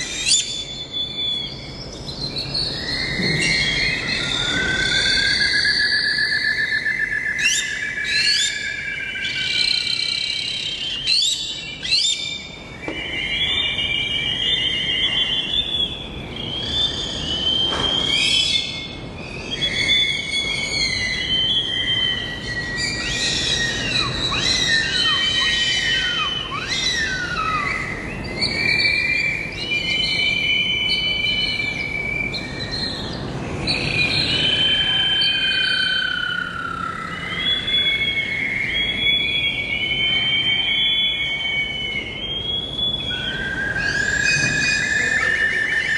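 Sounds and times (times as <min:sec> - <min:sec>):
birds singing and calling: 0:00.0 - 0:45.9
downward-sliding bird calls: 0:00.0 - 0:45.9.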